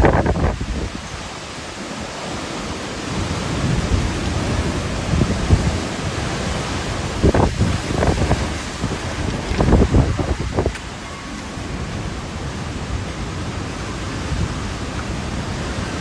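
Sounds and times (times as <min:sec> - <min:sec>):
wind buffeting microphone: 0:00.0 - 0:01.3, 0:03.5 - 0:16.0
wind and rain rushing: 0:00.0 - 0:16.0.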